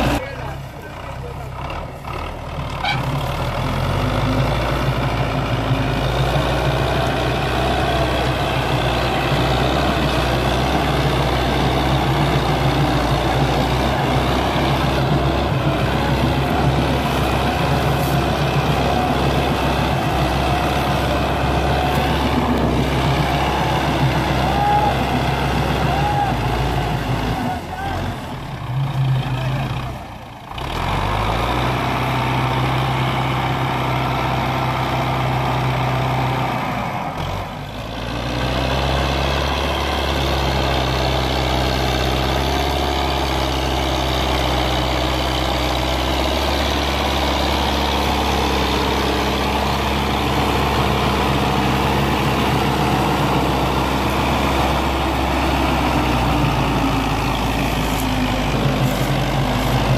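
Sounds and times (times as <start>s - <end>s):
diesel tractor engine straining: 0.0s - 59.9s.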